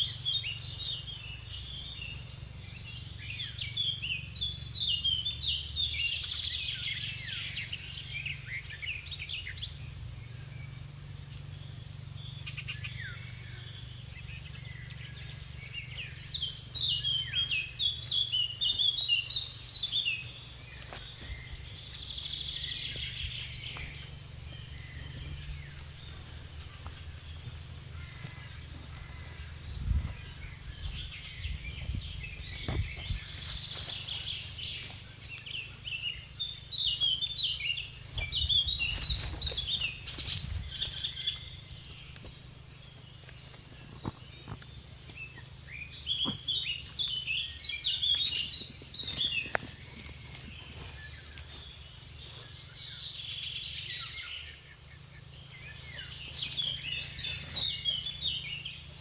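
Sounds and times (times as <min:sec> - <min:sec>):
songbirds chirping: 0:00.0 - 0:59.0
steady low rumble: 0:00.0 - 0:59.0.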